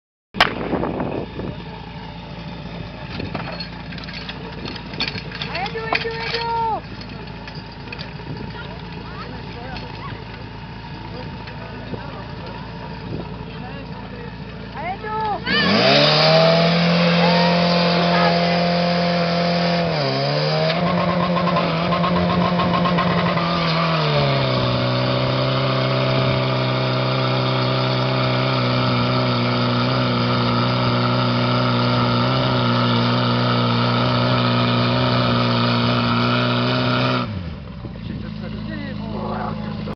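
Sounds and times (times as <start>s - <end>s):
fire pump engine running: 0.4s - 39.9s.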